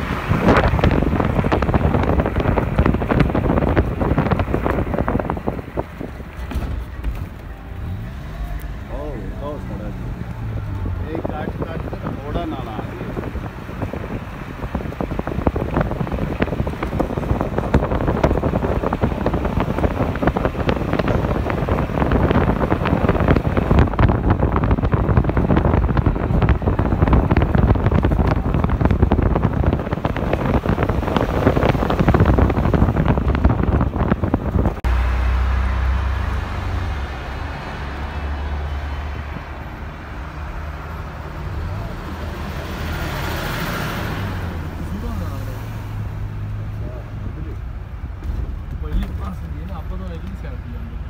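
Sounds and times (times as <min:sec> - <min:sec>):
car road and engine noise: 0:00.0 - 0:51.0
wind buffeting microphone: 0:00.0 - 0:51.0.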